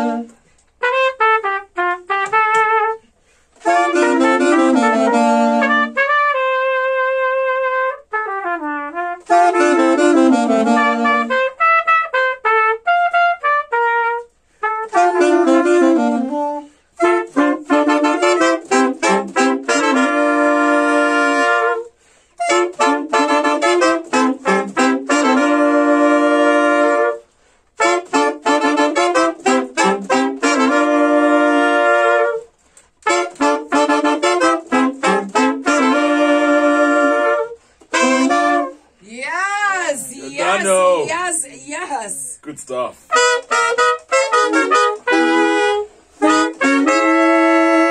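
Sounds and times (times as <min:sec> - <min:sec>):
saxophones and trumpet reggae melody: 0:00.0 - 0:47.9.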